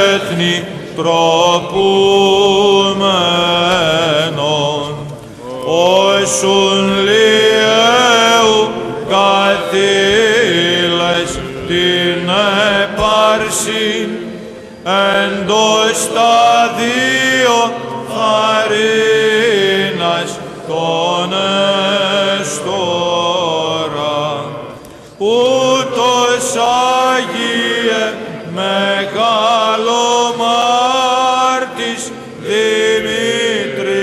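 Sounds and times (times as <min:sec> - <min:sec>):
chant singing over a drone: 0:00.0 - 0:34.0.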